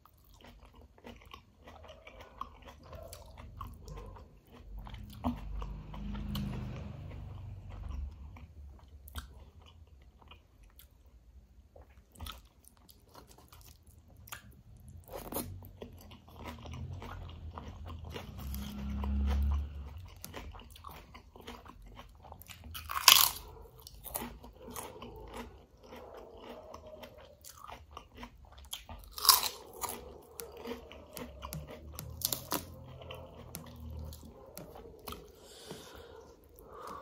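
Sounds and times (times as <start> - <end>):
crunching bites of crisp food: 0.0 - 11.0, 11.7 - 37.0
chewing with small crunches: 0.0 - 37.0.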